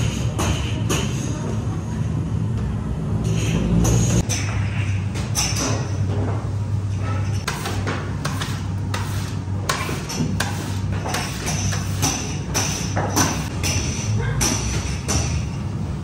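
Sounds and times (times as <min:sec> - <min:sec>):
bakery machinery hum: 0:00.0 - 0:16.0.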